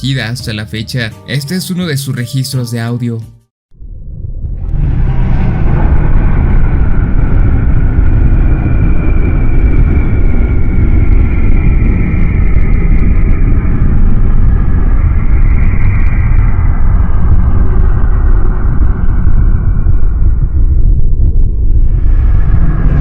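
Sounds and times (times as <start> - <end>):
deep rumble: 3.7 - 23.0
sliding drawn-out tones: 4.4 - 23.0.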